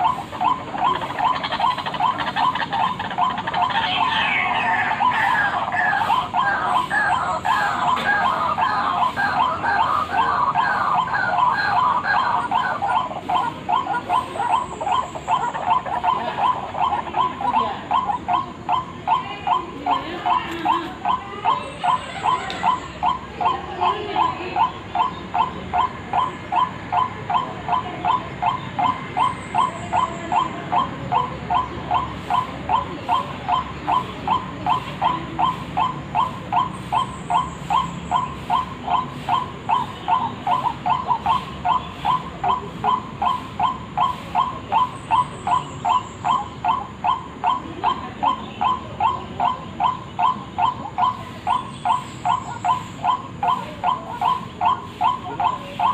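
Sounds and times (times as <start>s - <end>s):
bird call repeated evenly: 0.0s - 55.9s.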